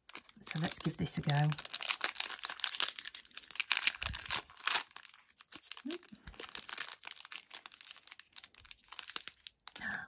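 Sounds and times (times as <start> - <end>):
foil candy wrapper crinkling and tearing: 0.0 - 10.0.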